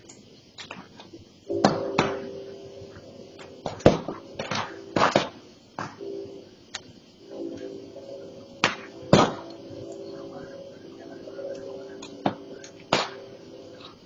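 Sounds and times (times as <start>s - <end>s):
burning brush popping and crackling: 0.0s - 7.8s, 8.4s - 14.0s
steady low hum: 0.0s - 14.0s.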